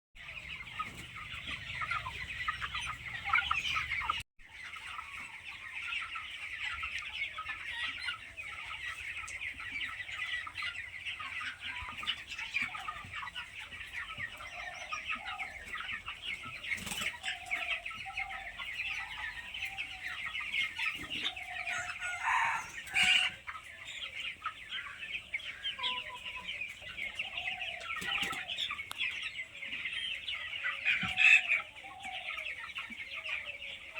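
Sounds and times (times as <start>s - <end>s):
chickens calling: 0.2s - 33.9s
chickens clucking: 0.2s - 33.9s.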